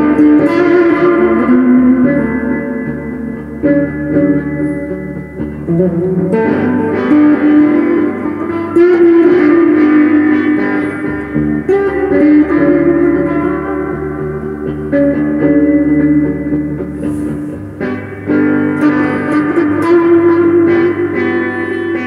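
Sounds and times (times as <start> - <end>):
electric guitar picked notes: 0.0 - 22.0.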